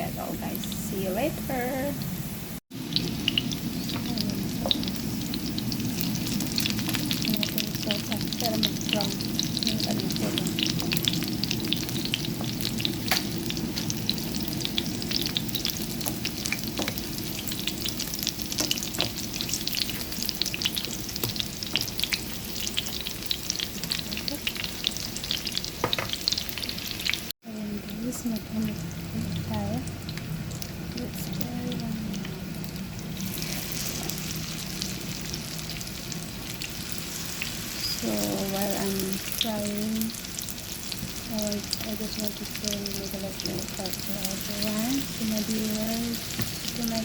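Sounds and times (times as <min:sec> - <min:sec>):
patties sizzling in frying oil: 0:00.0 - 0:47.0.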